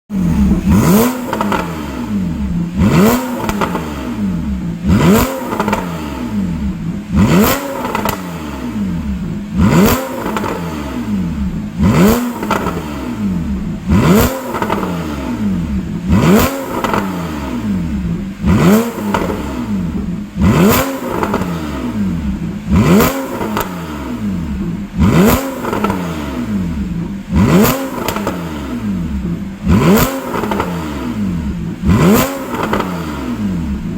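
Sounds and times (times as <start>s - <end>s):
car engine revving: 0.1s - 33.9s.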